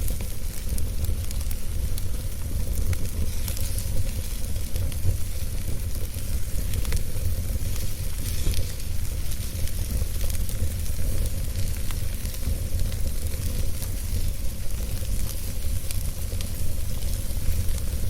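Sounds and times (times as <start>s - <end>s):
fire crackles and pops: 0.0s - 18.0s
fire hissing: 0.0s - 18.0s
flames rumbling: 0.0s - 18.0s.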